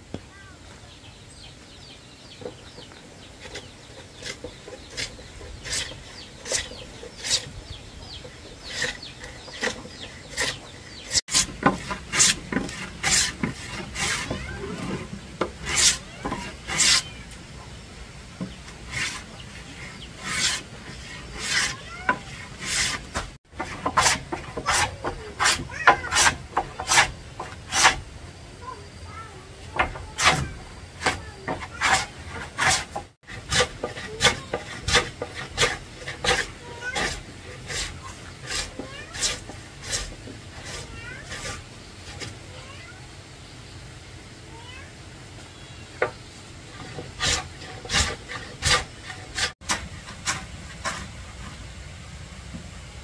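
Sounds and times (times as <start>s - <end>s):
hand tool scraping wood: 2.4s - 17.4s, 18.4s - 28.1s, 29.6s - 42.4s, 46.0s - 51.8s.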